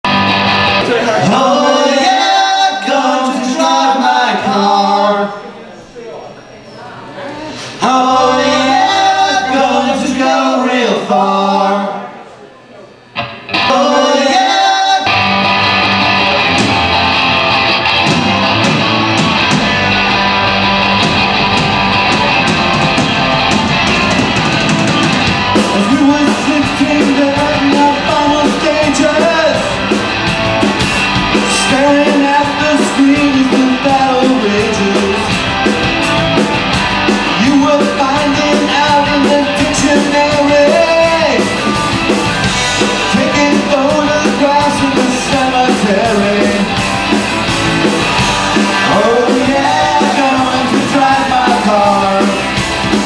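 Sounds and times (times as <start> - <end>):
rock band playing: 0.0 - 5.1, 7.7 - 11.5, 13.2 - 53.0.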